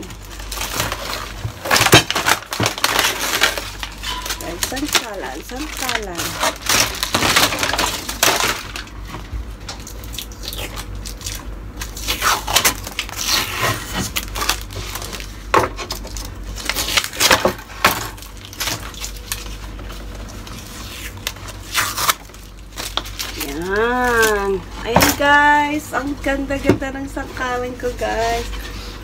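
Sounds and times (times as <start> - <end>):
paper wrapping rustling: 0.0 - 29.0.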